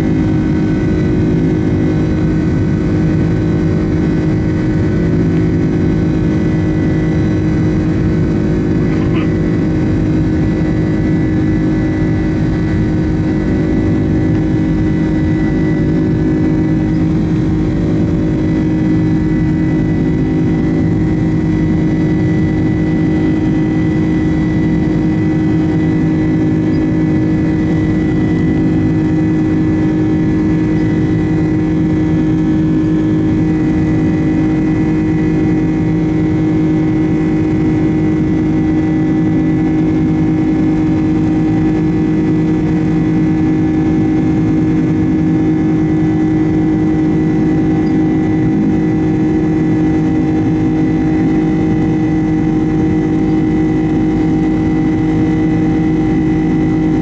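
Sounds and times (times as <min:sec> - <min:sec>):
jet engine drone from cabin: 0:00.0 - 0:57.0.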